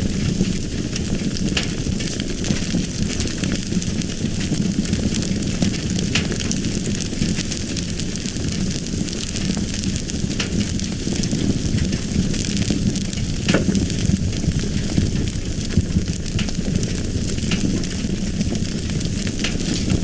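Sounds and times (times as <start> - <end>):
fire crackles and pops: 0.0 - 20.0
fire rumbling and hissing: 0.0 - 20.0.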